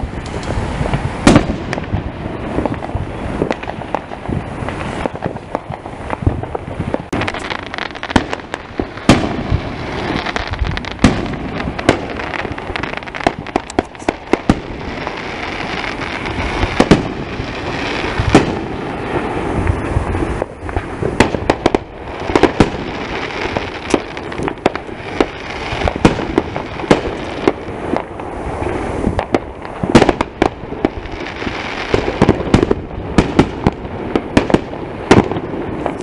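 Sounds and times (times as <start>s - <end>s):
crackling pops: 0.0s - 36.0s
fireworks bangs and pops: 0.0s - 36.0s.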